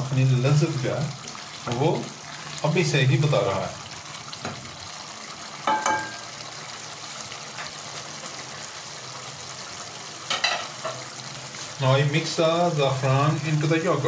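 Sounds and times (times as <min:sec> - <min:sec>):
gravy bubbling and sizzling: 0:00.0 - 0:14.0.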